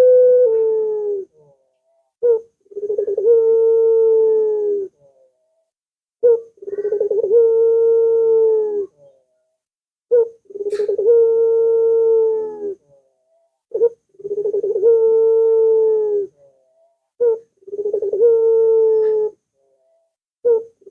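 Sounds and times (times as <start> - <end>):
dove cooing: 0.0 - 5.4, 6.2 - 9.3, 10.1 - 20.9.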